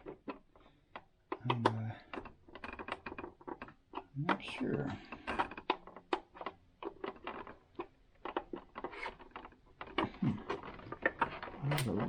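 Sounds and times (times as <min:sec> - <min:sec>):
plastic and metal parts clicking: 0:00.0 - 0:12.0.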